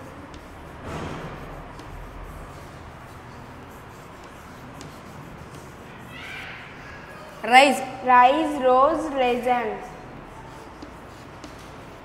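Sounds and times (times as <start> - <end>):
chalk taps: 0.0 - 7.4, 8.4 - 12.0
chalk scratching on chalkboard: 0.0 - 12.0
room noise: 0.0 - 12.0.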